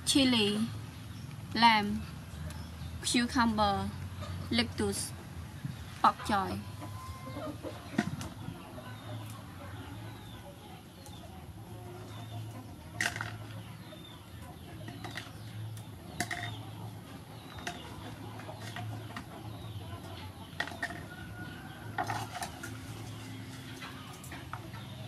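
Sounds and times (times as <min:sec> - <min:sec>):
chickens clucking: 0:01.1 - 0:25.0.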